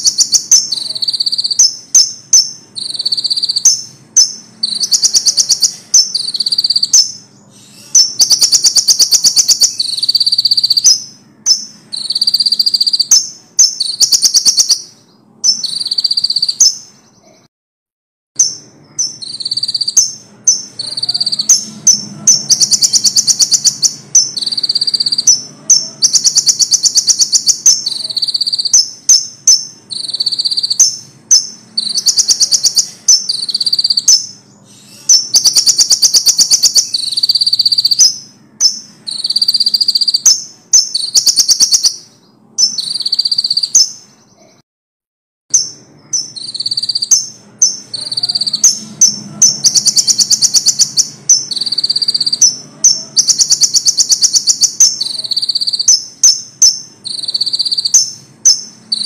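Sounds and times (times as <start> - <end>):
songbird singing trills and chirps: 0.0 - 17.5, 18.4 - 44.5, 45.5 - 59.0.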